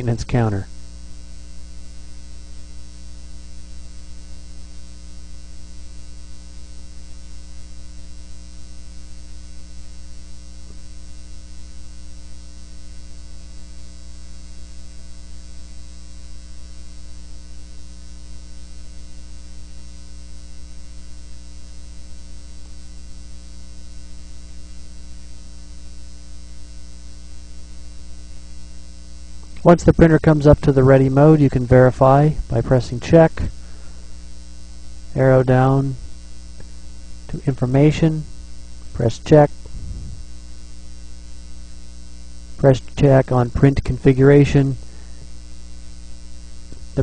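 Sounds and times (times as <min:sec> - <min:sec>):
electrical mains hum with buzz: 0:00.0 - 0:47.0.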